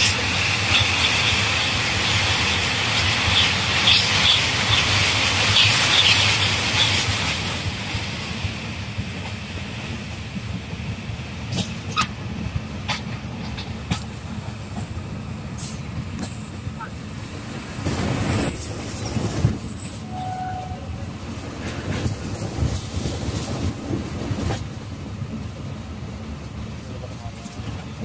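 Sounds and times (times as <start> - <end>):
train wheels rumbling on bridge: 0.0 - 28.0.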